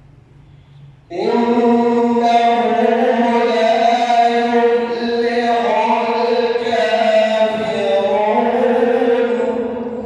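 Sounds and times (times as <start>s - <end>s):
man chanting recitation: 1.1s - 10.0s.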